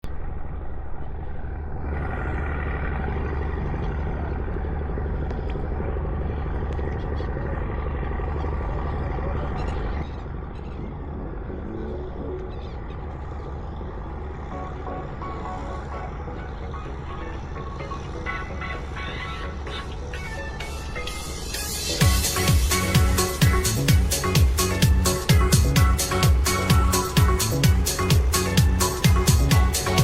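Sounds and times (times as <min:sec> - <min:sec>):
boat engine rumble: 0:00.0 - 0:30.0.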